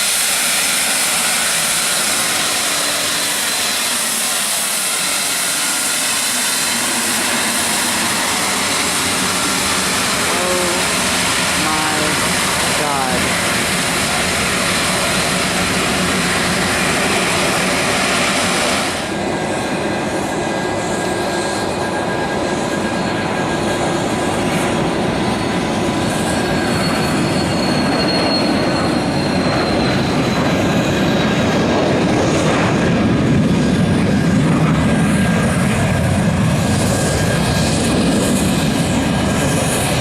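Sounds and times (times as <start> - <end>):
jet engines running with whine: 0.0 - 40.0.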